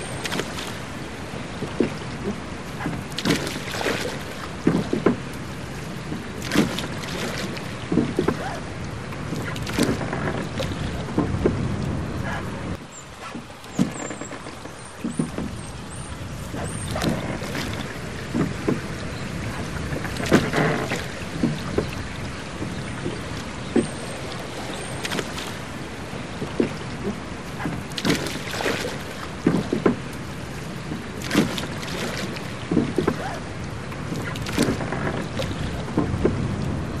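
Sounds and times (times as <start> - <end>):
wash of water: 0.0 - 37.0
water splashing against a boat: 0.0 - 37.0
wind: 0.0 - 37.0.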